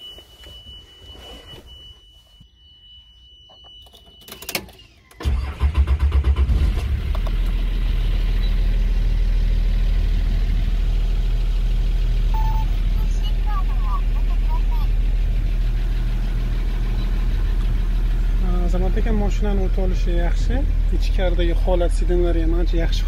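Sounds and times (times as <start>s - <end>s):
diesel engine starting and idling: 4.4s - 23.0s.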